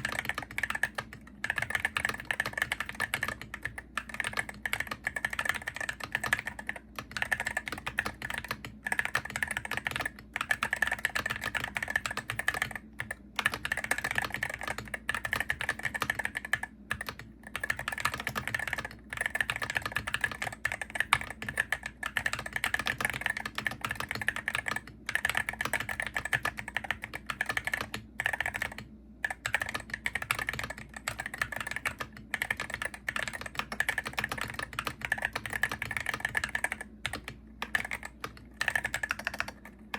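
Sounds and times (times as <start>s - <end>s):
keyboard typing clicks: 0.0s - 39.9s.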